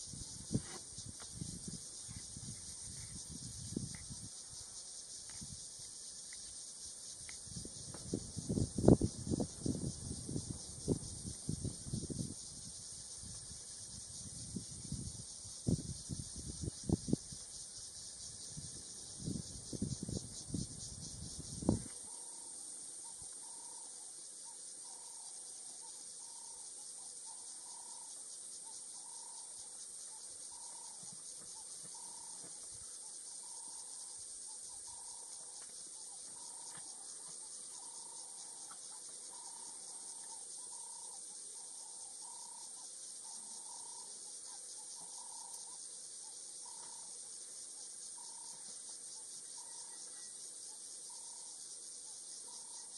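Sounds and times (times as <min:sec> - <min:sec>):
insect chorus buzzing: 0:00.0 - 0:52.9.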